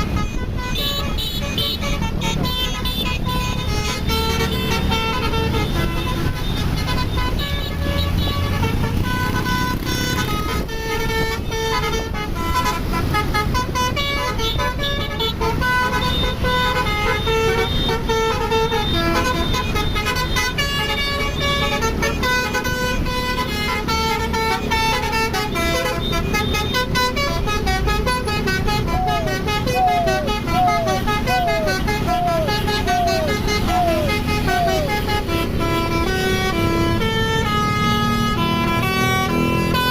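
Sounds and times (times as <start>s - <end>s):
multi-tone musical horn tune: 0.0s - 39.9s.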